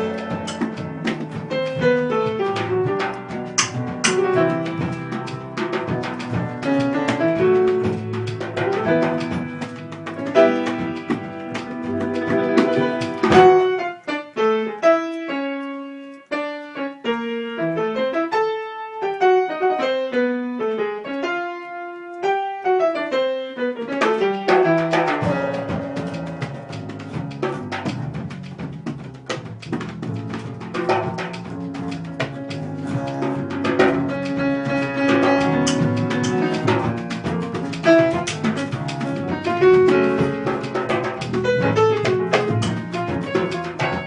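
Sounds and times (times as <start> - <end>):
jazz band with drums: 0.0 - 14.5, 23.1 - 44.0
solo piano notes: 0.0 - 44.0.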